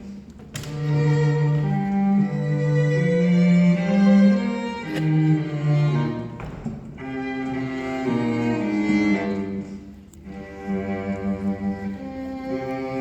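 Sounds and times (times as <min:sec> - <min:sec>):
bowed strings: 0:00.0 - 0:13.0
low cello: 0:00.0 - 0:13.0.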